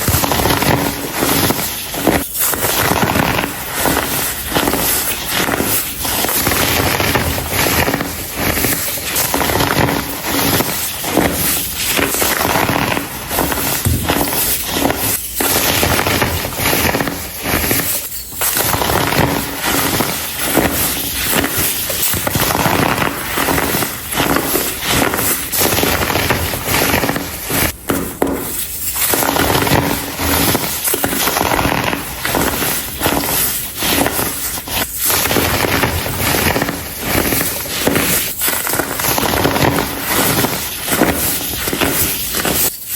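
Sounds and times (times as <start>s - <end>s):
baking soda clumps crunching: 0.0s - 42.9s.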